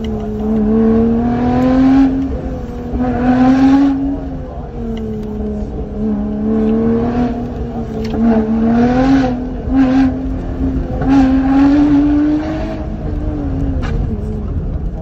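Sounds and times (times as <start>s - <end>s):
car engine pulling hard: 0.0s - 15.0s.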